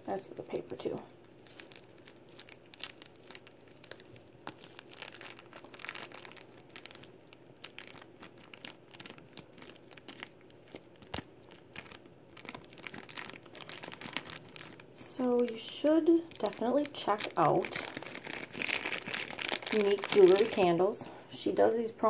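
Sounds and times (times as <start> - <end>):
plastic packet crinkling: 0.1 - 21.1.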